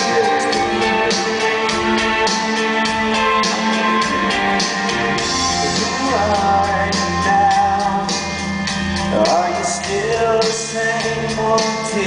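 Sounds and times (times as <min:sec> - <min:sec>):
pop song over pa: 0:00.0 - 0:12.0.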